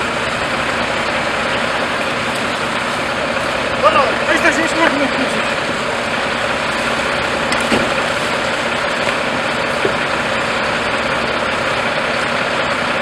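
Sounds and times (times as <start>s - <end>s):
fire truck engine droning: 0.0s - 13.0s.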